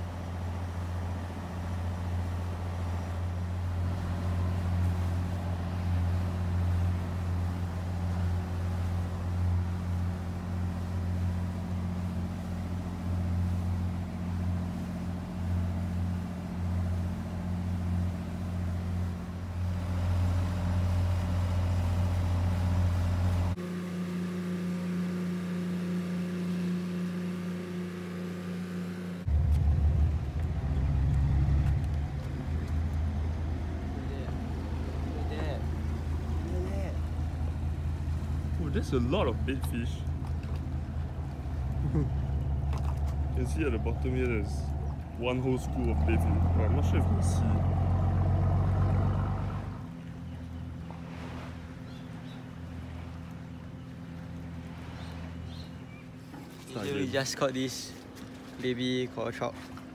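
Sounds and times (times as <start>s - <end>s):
ferry engine droning: 0.0s - 59.9s.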